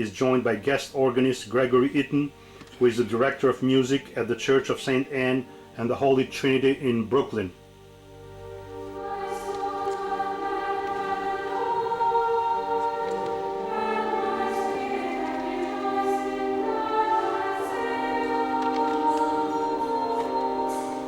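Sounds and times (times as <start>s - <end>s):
church choir singing: 0.0s - 21.0s.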